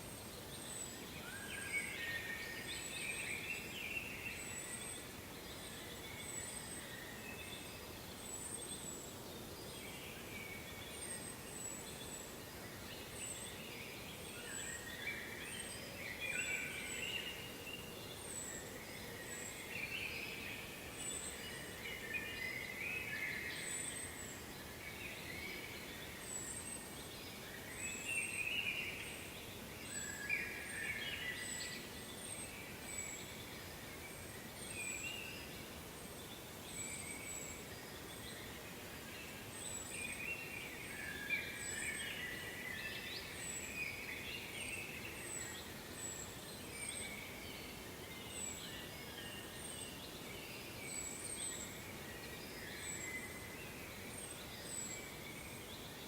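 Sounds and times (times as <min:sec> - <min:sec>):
songbirds singing: 0:00.0 - 0:56.0
steady background hiss: 0:00.0 - 0:56.0.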